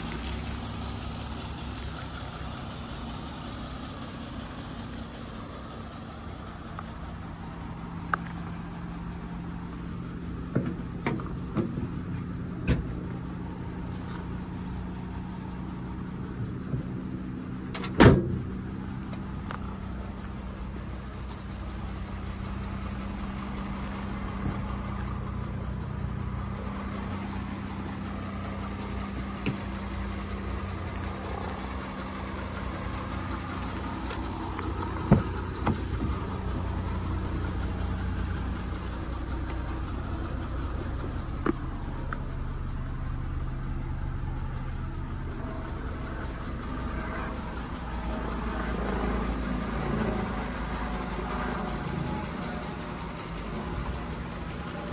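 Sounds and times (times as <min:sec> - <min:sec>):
diesel engine idling: 0:00.0 - 0:54.9
engine clicks and knocks: 0:00.0 - 0:54.9.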